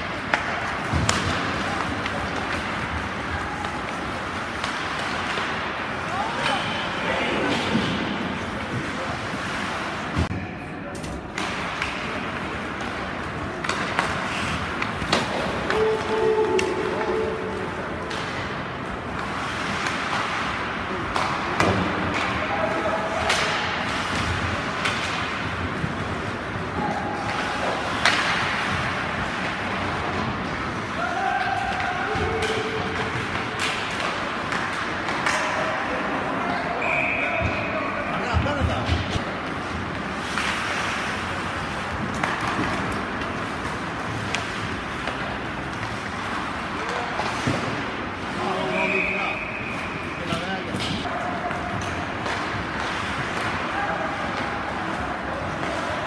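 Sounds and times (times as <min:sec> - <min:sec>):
skates scraping on ice: 0:00.0 - 0:10.3, 0:11.2 - 0:56.0
arena noise: 0:00.0 - 0:56.0
hockey sticks clacking on puck: 0:00.0 - 0:56.0.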